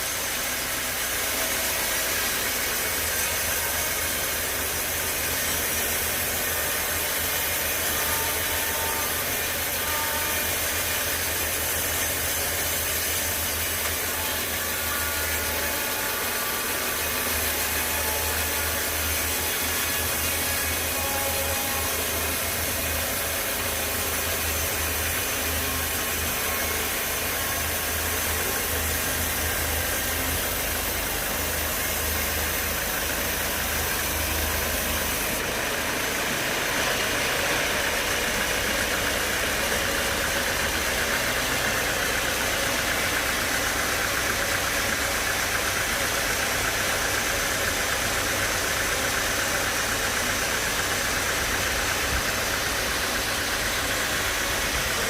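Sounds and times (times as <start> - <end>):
high machinery hiss: 0.0 - 55.0.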